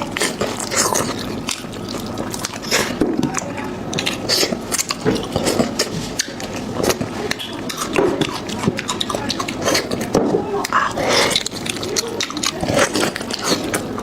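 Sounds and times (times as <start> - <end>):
wet chewing and lip smacks: 0.0 - 14.0.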